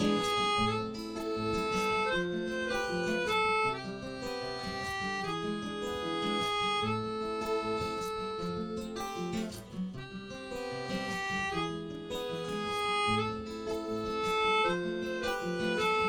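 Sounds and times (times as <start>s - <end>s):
acoustic guitar strumming: 0.0s - 16.0s
sustained melody line: 0.0s - 16.0s.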